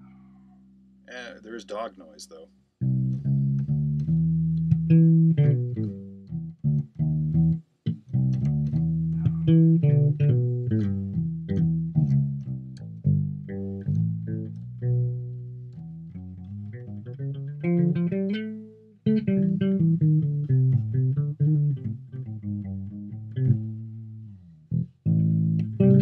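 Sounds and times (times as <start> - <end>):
plucked electric bass notes: 2.8 - 26.0.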